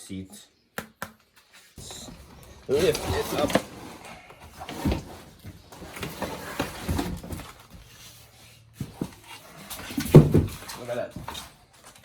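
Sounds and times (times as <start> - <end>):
cardboard box rustling and knocking: 1.8 - 12.0.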